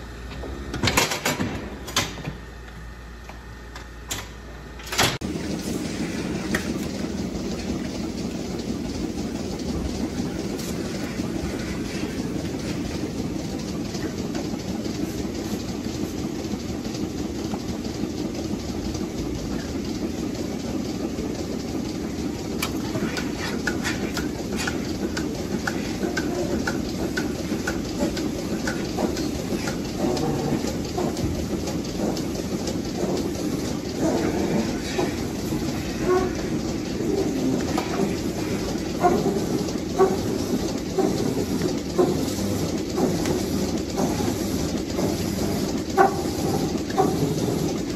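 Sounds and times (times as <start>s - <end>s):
milking machine hum and hiss: 0.0s - 47.9s.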